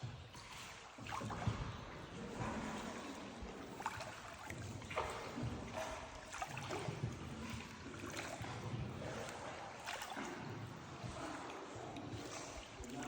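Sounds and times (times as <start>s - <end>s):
small splashes: 0.0s - 13.0s
water sloshing and trickling: 0.0s - 13.0s.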